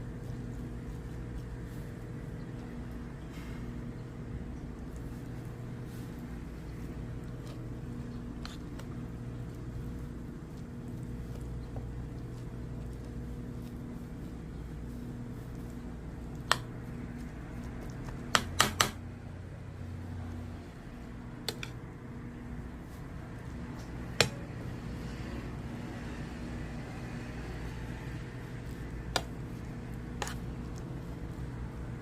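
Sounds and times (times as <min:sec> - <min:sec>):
kitchen fan humming: 0:00.0 - 0:32.0.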